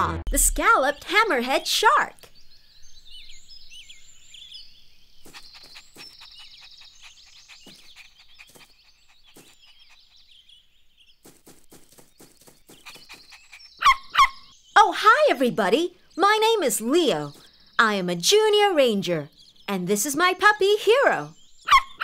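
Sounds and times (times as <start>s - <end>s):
small birds chirping: 0.4s - 22.0s.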